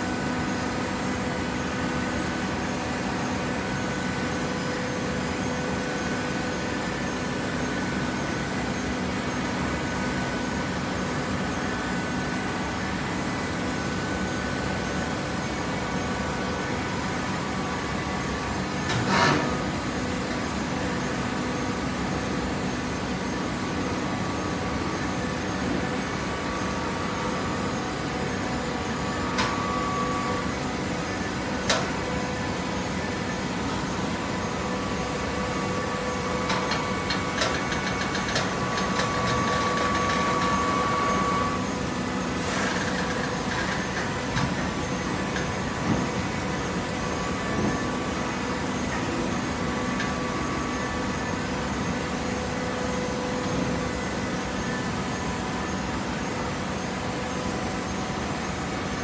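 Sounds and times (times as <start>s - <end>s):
hydraulic baler humming: 7.7s - 59.0s.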